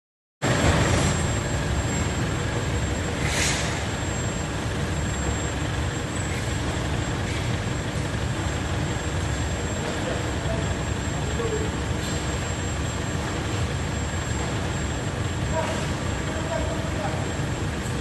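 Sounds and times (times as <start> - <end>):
furnace low rumble: 0.4 - 18.0
thin high whine: 0.5 - 18.0.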